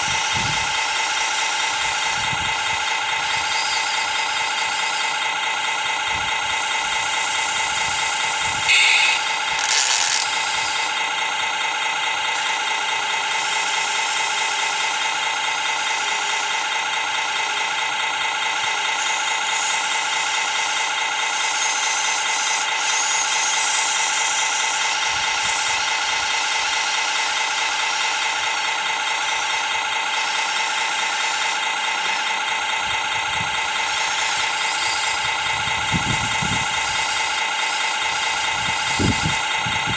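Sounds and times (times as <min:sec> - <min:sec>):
model machines mechanical drone: 0:00.0 - 0:39.9.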